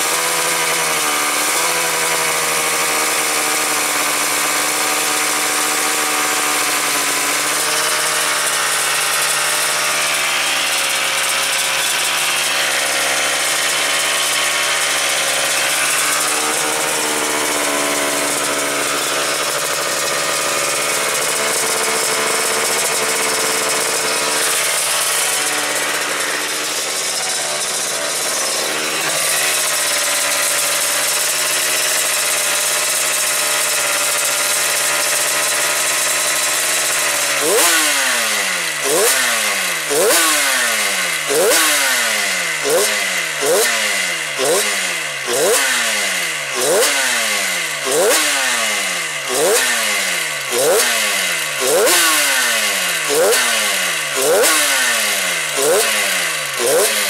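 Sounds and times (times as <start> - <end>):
two-stroke racing engine blipping: 0.0 - 57.0.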